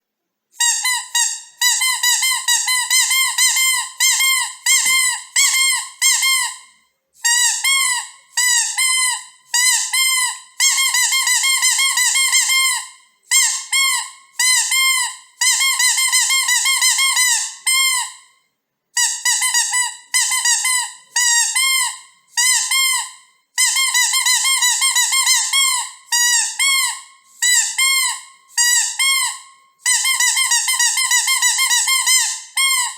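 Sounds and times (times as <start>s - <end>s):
dog toy squeaking: 0.6s - 18.3s, 19.0s - 32.9s.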